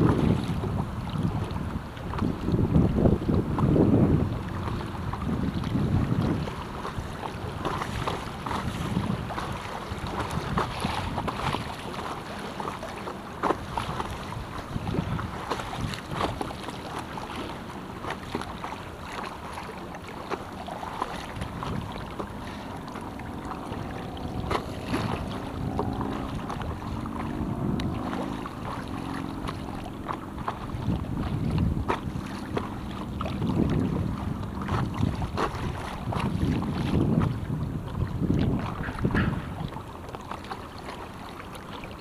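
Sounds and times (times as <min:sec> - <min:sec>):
paddle strokes splashing: 0:00.0 - 0:42.0
rushing water: 0:00.0 - 0:42.0
water lapping against board: 0:00.0 - 0:42.0
wind on microphone: 0:00.0 - 0:42.0.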